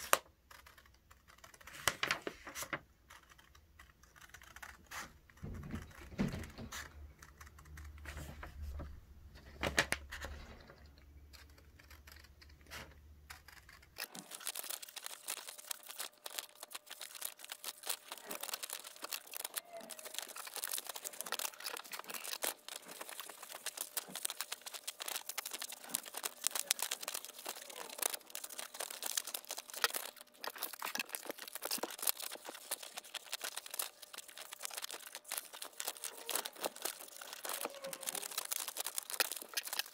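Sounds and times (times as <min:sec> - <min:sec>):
scissors snipping paper: 0:00.0 - 0:08.6, 0:11.3 - 0:39.9
paper rustling and crinkling: 0:00.0 - 0:10.7, 0:11.4 - 0:39.9.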